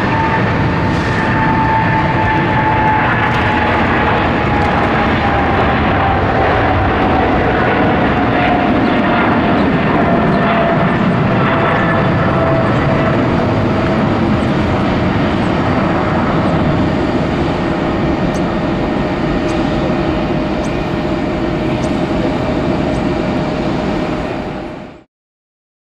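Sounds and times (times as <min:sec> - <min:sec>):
jet engines rushing and whining: 0:00.0 - 0:25.1.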